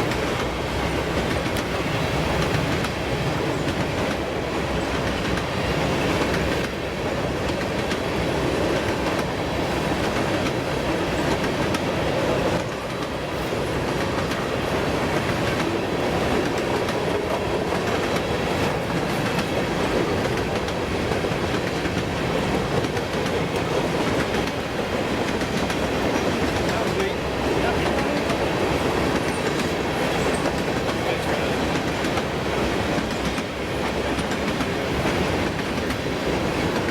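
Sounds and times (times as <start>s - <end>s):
freight train rumbling past: 0.0s - 36.9s
steel wheels clattering on rail: 0.0s - 36.9s.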